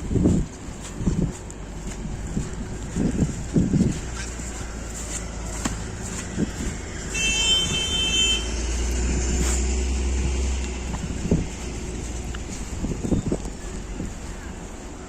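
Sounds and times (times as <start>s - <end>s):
heavy vehicle passing: 0.0s - 15.0s.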